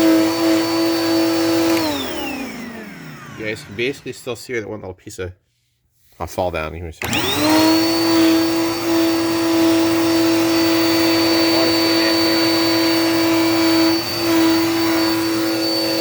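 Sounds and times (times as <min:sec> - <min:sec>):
vacuum cleaner motor whining: 0:00.0 - 0:04.5, 0:07.0 - 0:16.0.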